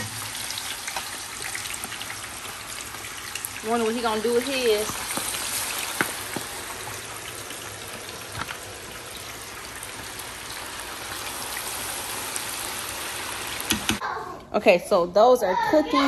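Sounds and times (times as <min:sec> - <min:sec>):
grease popping: 0:00.0 - 0:14.0
pork chops sizzling: 0:00.0 - 0:14.0.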